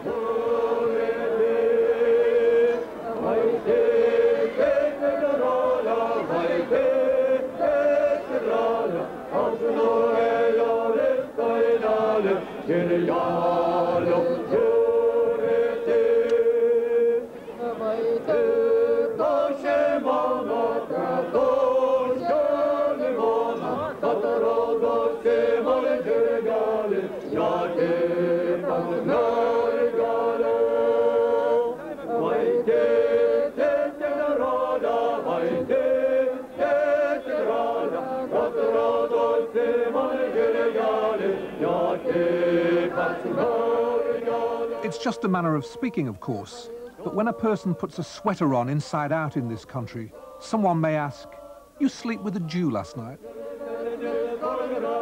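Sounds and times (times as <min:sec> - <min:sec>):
group of voices singing: 0:00.0 - 0:55.0.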